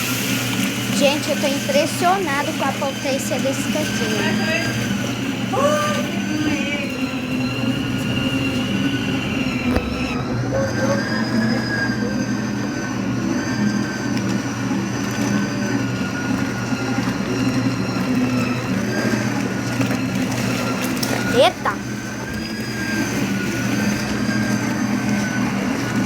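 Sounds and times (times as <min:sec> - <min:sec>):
washing machines agitating: 0:00.0 - 0:26.0.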